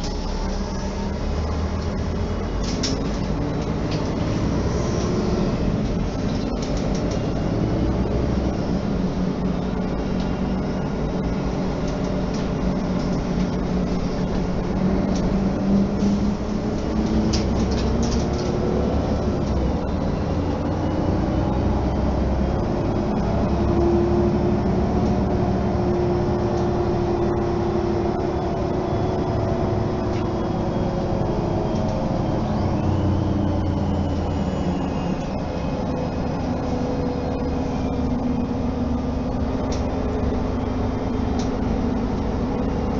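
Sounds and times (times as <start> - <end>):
bus engine running: 0.0 - 42.9
road rumble: 0.0 - 42.9.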